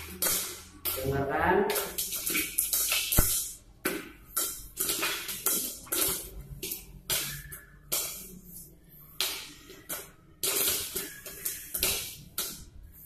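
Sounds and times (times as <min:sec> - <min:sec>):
popcorn popping: 0:00.0 - 0:08.4, 0:09.1 - 0:12.9.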